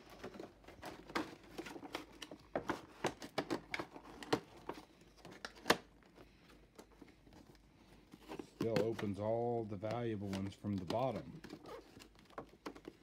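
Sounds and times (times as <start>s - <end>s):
cardboard box crinkling and scraping: 0.0s - 13.0s.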